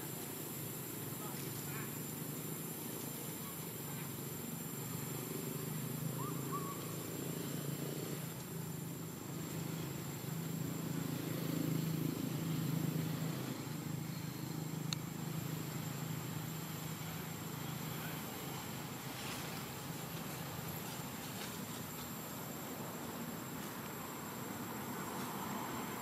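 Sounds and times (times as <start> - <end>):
distant motor humming: 0.0 - 26.0.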